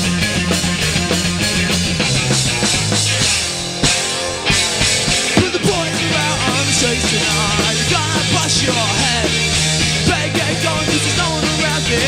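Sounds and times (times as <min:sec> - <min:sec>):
drum kit: 0:00.0 - 0:12.0
electric guitars: 0:00.0 - 0:12.0.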